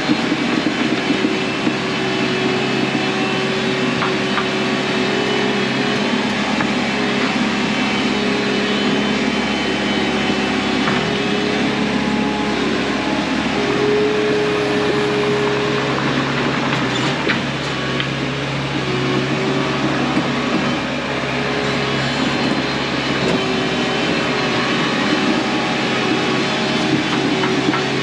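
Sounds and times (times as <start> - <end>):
diesel engine under load: 0.0 - 28.0.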